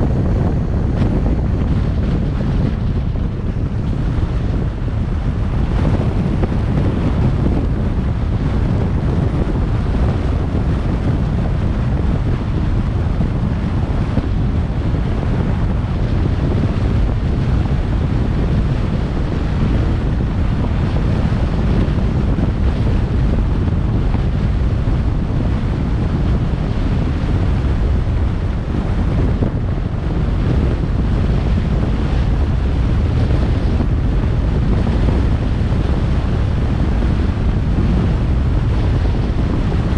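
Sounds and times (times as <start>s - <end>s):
car road noise: 0.0s - 39.9s
wind rumble on microphone: 0.0s - 39.9s.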